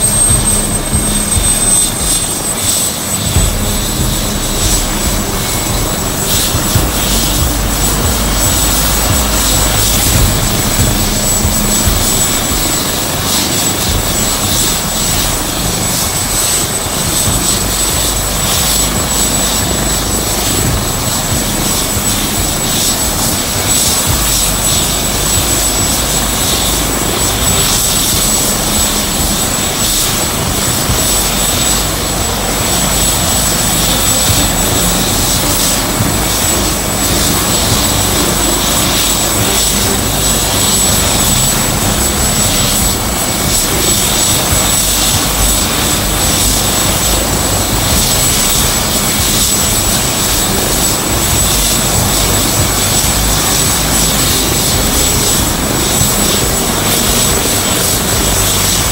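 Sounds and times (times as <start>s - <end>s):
helicopter engines and rotor: 0.0s - 58.9s
high turbine whine: 0.0s - 58.9s.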